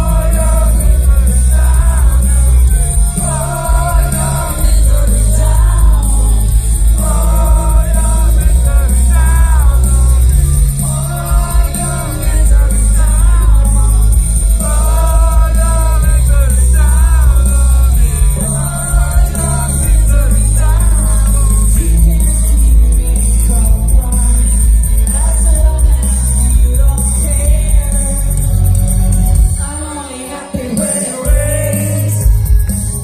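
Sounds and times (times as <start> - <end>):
heavy bass: 0.0 - 29.7, 31.3 - 33.0
drums: 0.0 - 33.0
electric guitar: 0.0 - 33.0.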